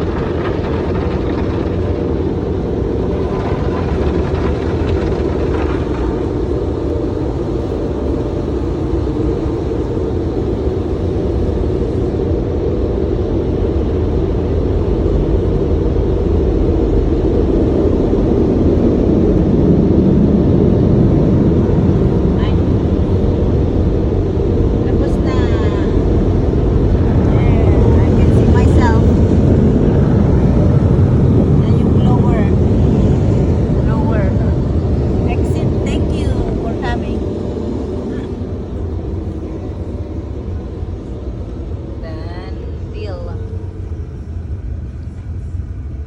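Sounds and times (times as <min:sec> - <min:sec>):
car wash machinery rumbling: 0:00.0 - 0:46.0.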